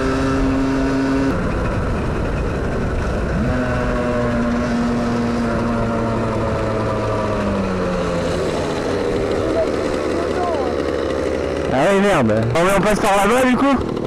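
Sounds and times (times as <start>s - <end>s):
two-stroke motorcycle engine: 0.0s - 14.0s.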